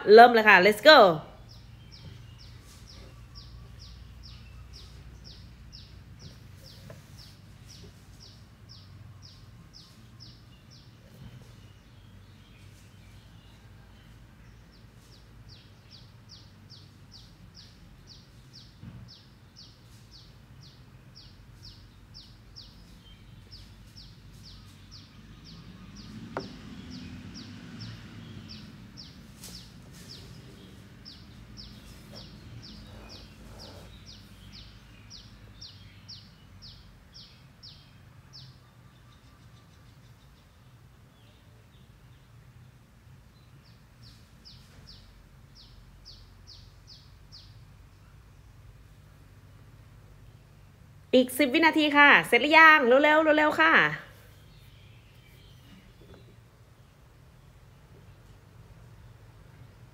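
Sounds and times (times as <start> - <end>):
small bird chirping: 1.4 - 50.6, 51.6 - 59.9.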